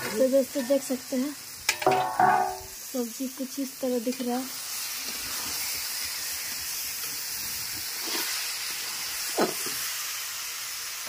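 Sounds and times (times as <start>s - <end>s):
curry sizzling in a wok: 0.0s - 11.0s.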